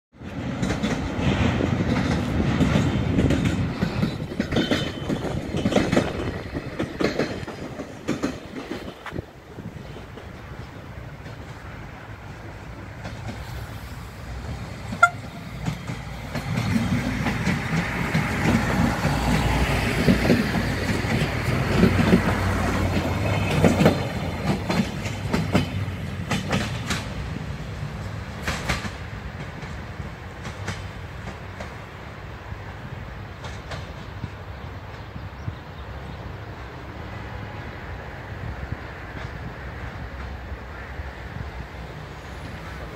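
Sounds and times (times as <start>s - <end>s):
wheels clicking over rail joints: 0.2s - 35.6s
diesel train passing: 0.2s - 42.9s.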